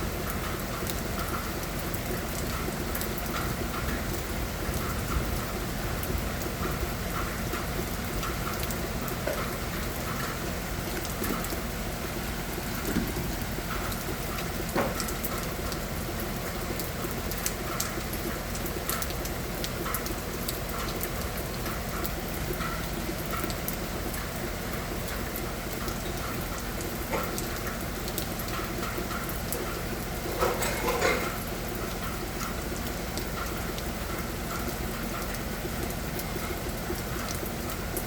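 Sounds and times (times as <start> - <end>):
rain drops tapping on hard surface: 0.0 - 38.0.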